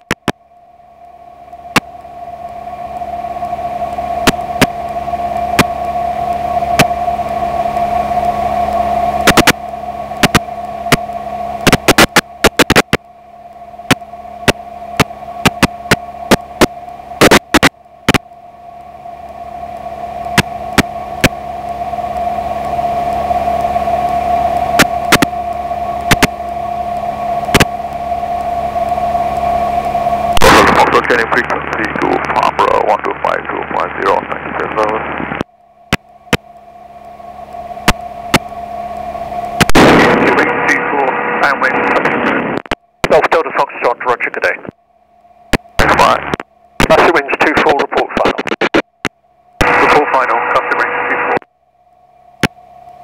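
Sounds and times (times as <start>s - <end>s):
radio hum and hiss: 0.0s - 7.3s, 8.7s - 51.5s, 52.4s - 53.0s.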